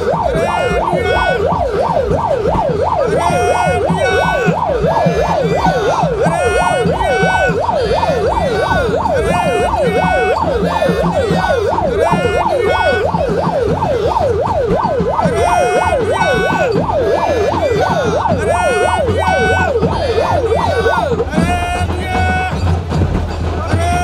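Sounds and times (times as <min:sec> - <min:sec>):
electronic siren yelping: 0:00.0 - 0:24.0.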